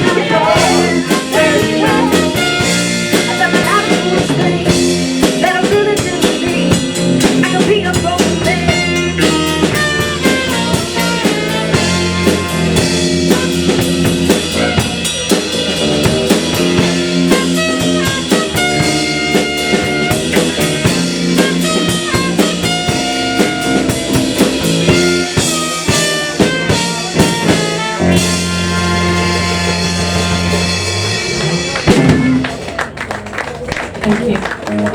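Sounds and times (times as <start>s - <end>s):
bass guitar: 0.0s - 34.9s
drum kit: 0.0s - 34.9s
electric guitar: 0.0s - 34.9s.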